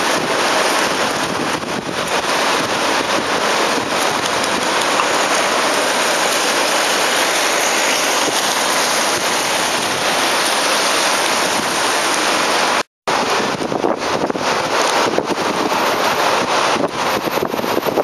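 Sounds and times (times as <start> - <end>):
rain falling on wet street: 0.0 - 18.0.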